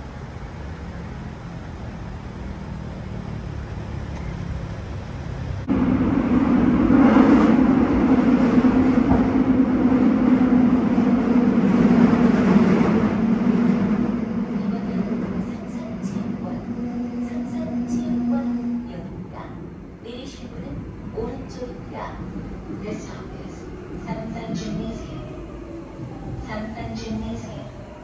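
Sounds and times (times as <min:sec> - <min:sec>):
street traffic noise: 0:00.0 - 0:28.0
subway train rumbling in a tunnel: 0:00.0 - 0:28.0.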